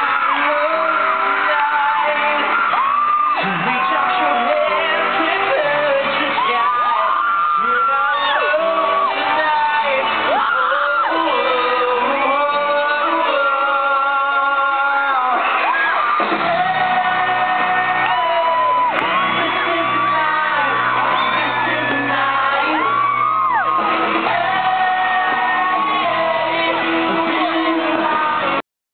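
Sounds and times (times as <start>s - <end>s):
crowd shouting and whooping: 0.0s - 28.6s
lead singer singing: 0.0s - 28.6s
live pop band playing: 0.0s - 28.6s.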